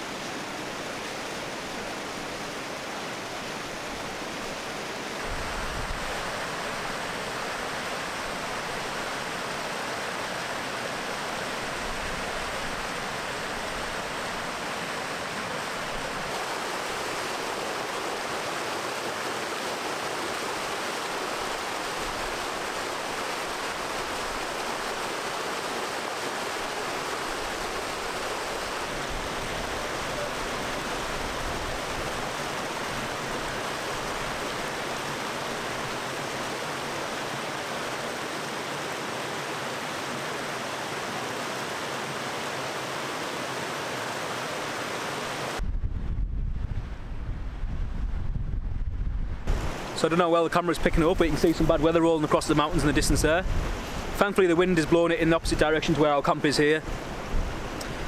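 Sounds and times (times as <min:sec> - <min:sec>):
stream rushing over rocks: 0:00.0 - 0:45.6, 0:49.5 - 0:58.0.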